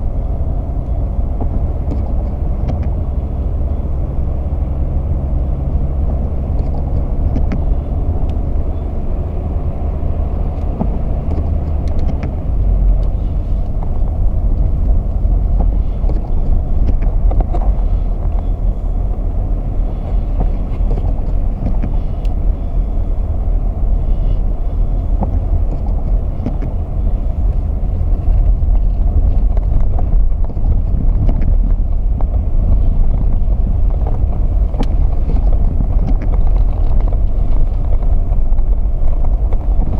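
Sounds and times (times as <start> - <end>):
vehicle driving rumble: 0.0 - 39.9.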